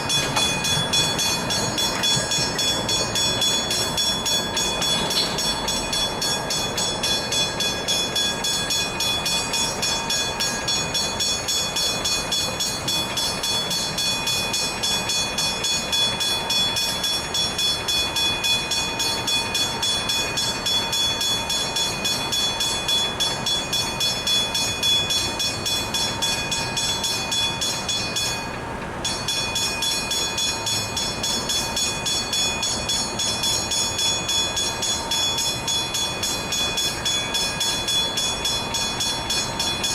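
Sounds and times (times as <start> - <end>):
level crossing bells ringing: 0.0 - 39.9.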